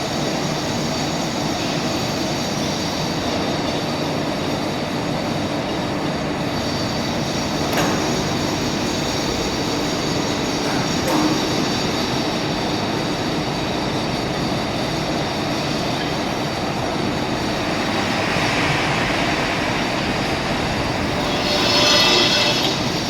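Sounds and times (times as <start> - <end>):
high squealing whine: 0.0 - 23.0
loud machinery noise: 0.0 - 23.0.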